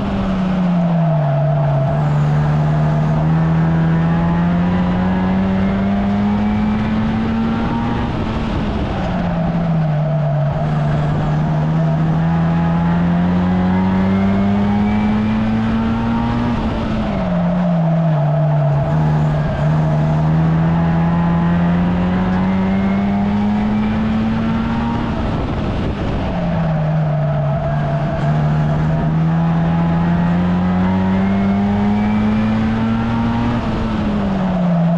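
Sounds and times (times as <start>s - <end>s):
race car engine accelerating: 0.0s - 34.9s.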